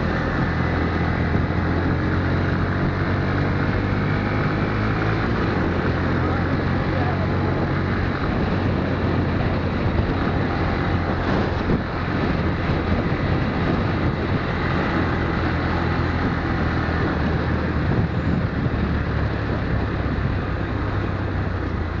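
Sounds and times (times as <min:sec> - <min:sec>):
motorcycle engine running: 0:00.0 - 0:22.0
road noise: 0:00.0 - 0:22.0.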